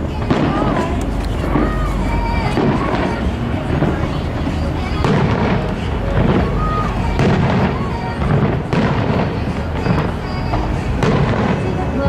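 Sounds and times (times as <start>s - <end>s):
continuous rumble: 0.0s - 12.0s
fireworks bangs: 0.0s - 12.0s.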